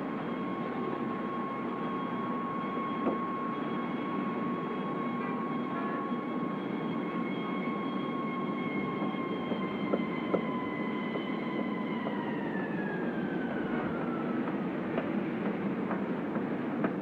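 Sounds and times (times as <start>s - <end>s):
city street rumble: 0.0s - 17.0s.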